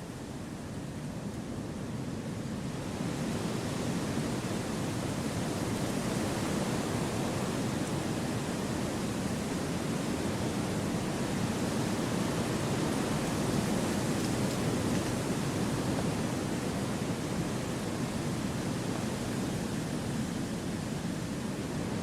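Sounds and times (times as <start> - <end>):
wind blowing through trees: 4.1 - 22.0.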